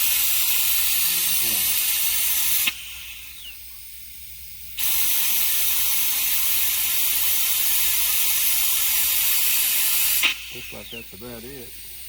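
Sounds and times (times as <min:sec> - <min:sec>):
air vacuum pump hissing: 0:00.0 - 0:12.0.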